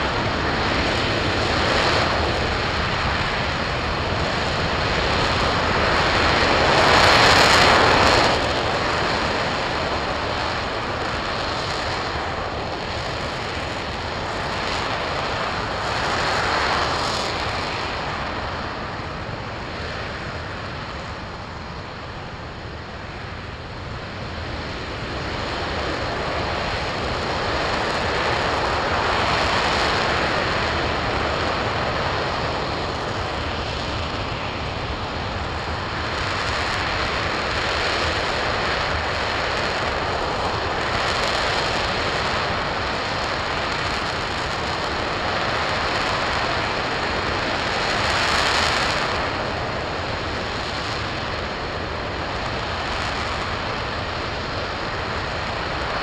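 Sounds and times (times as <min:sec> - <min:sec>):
rocket engine roaring: 0:00.0 - 0:56.0.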